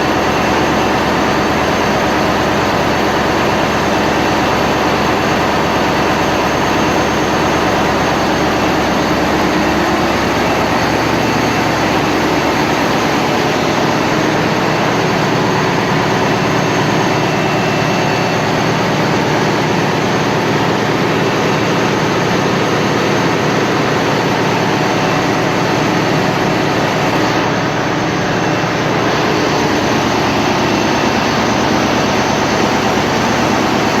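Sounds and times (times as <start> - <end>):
marine diesel engine running: 0.0 - 34.0.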